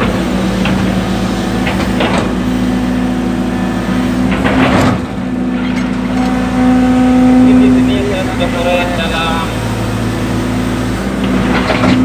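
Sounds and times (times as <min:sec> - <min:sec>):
excavator diesel engine running: 0:00.0 - 0:12.0
excavator working bursts: 0:00.0 - 0:12.0.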